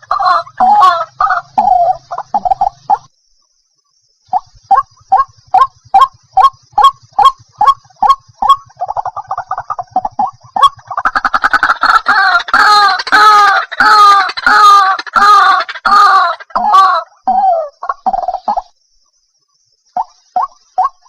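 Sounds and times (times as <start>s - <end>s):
waterhen calling: 0.0s - 3.1s, 4.3s - 18.7s, 20.0s - 21.0s.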